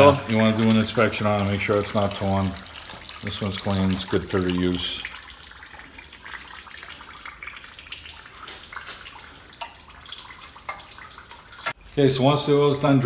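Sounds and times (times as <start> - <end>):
oil pouring into drain pan: 0.0 - 11.8.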